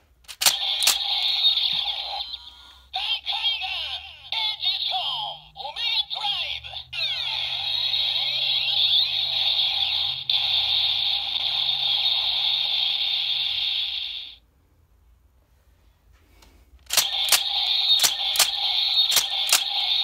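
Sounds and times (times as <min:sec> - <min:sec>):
toy belt electronic sound effect: 0:00.3 - 0:14.4, 0:16.9 - 0:20.0.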